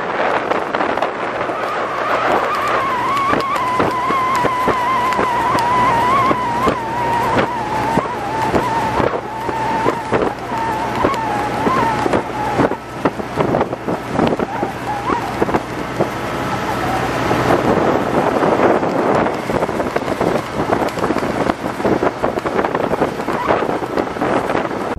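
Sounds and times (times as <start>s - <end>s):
boat engine droning with whine: 0.0s - 24.9s
hull knocking and splashing on waves: 0.0s - 24.9s.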